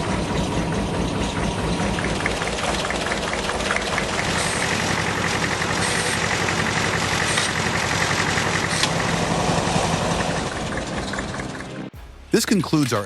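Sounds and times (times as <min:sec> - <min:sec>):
engine running with ticking: 0:00.0 - 0:12.0.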